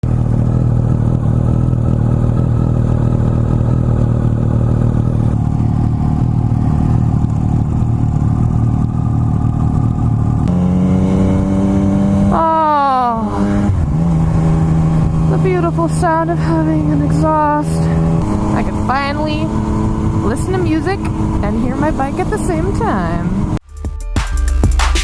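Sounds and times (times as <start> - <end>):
motorcycle engine revving: 0.0 - 23.6.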